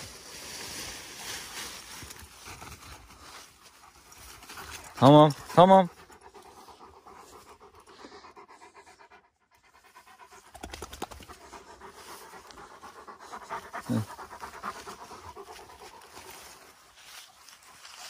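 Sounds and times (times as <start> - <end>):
dog panting: 2.5 - 18.0.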